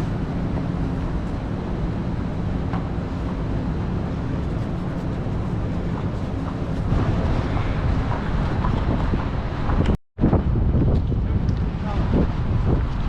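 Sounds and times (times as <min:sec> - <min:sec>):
street traffic rumble: 0:00.0 - 0:13.0
wind buffeting microphone: 0:00.0 - 0:13.0.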